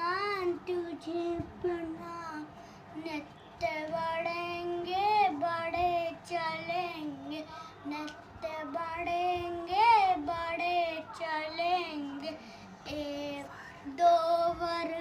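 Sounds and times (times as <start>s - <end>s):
boy singing prayer song: 0.0s - 15.0s.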